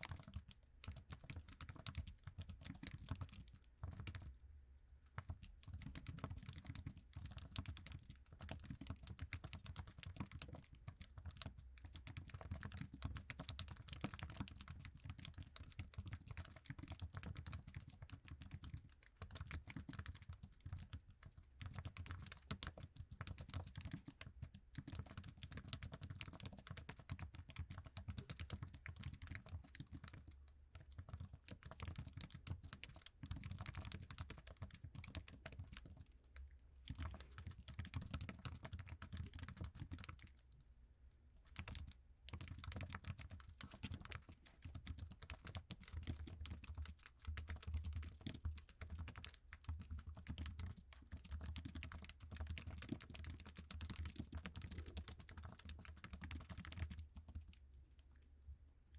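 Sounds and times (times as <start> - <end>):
fast typing on keyboard: 0.0 - 4.3, 5.1 - 40.5, 41.5 - 57.6.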